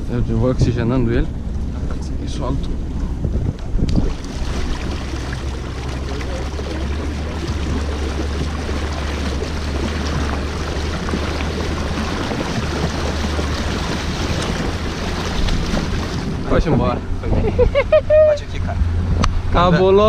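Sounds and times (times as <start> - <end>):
steady low rumble: 0.0 - 20.0
water rushing and splashing: 0.0 - 20.0.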